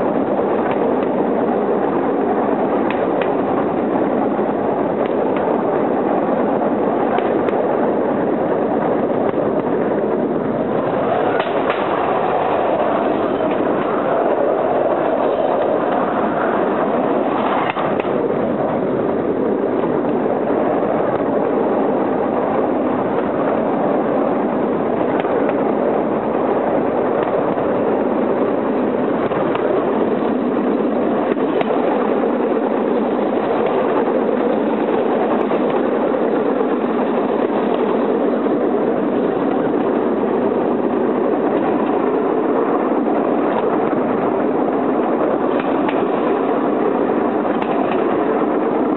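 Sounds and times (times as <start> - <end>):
engine drone: 0.0 - 48.9
wheels rattling over rails: 0.0 - 48.9.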